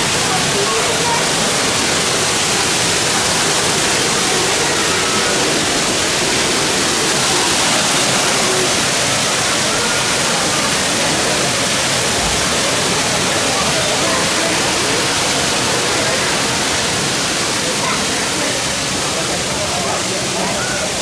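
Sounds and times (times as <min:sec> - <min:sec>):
faint voices: 0:00.0 - 0:21.0
falling water rushing: 0:00.0 - 0:21.0.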